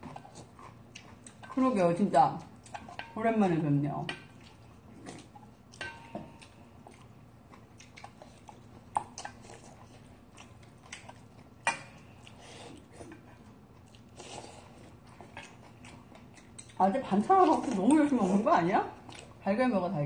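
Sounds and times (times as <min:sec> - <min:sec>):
people chewing: 0:00.0 - 0:19.4.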